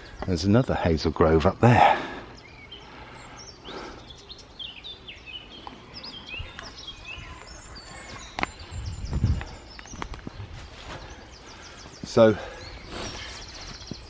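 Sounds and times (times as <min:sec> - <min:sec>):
small birds chirping and singing: 0:00.0 - 0:14.0.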